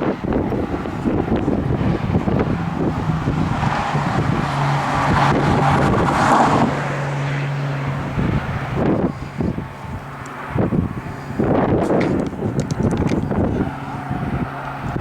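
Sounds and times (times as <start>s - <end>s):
road noise rushing: 0.0s - 15.0s
vehicle engine hum: 0.0s - 15.0s
wind buffeting microphone: 0.0s - 15.0s.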